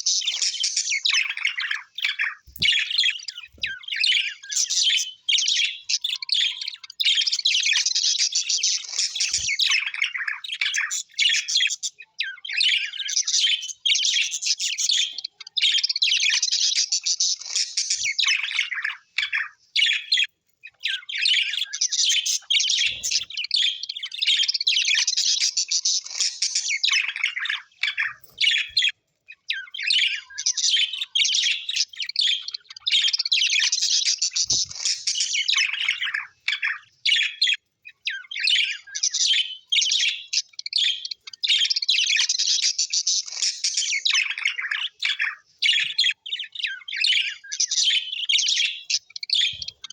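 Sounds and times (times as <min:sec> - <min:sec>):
parrots chattering and warbling: 0:00.0 - 0:49.9.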